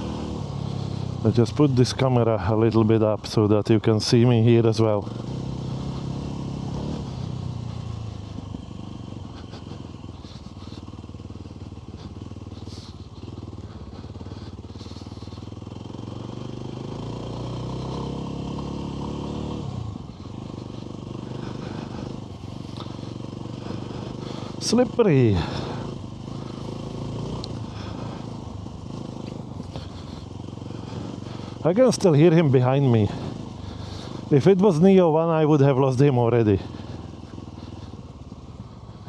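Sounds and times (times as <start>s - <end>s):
off-road motorbike engine revving: 0.0s - 39.0s.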